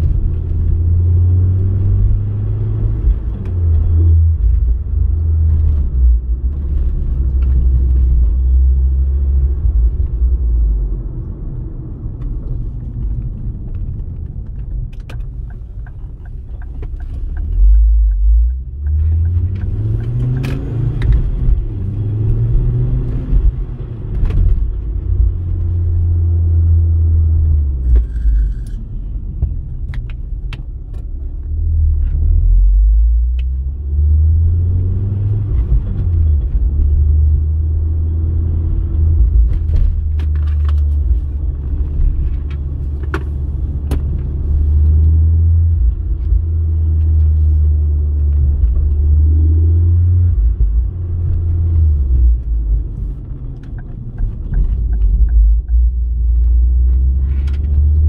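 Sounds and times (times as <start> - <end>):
car engine drone: 0.0 - 58.0
road noise: 0.0 - 58.0.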